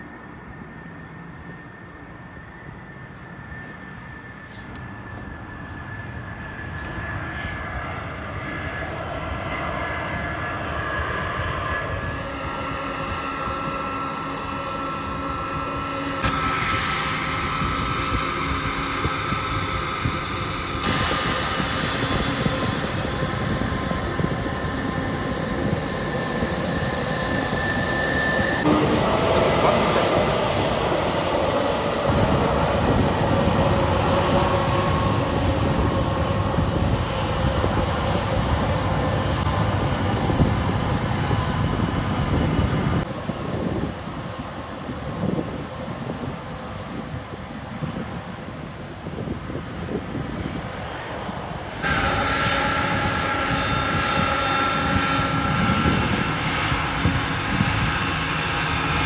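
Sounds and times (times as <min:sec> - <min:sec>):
jet airliner engine roar: 0:00.0 - 0:59.0.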